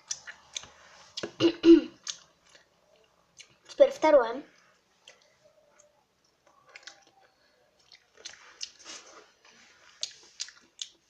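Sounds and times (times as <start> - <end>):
person chewing: 0.0 - 1.4, 2.0 - 3.8, 4.6 - 11.0.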